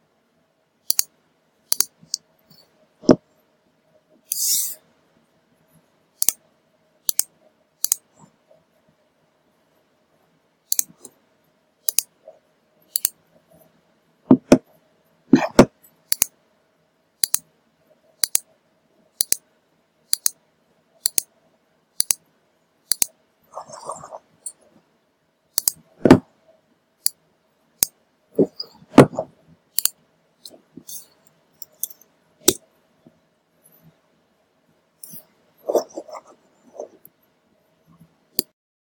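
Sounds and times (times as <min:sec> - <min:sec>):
faint steady hum: 0:00.0 - 0:38.5.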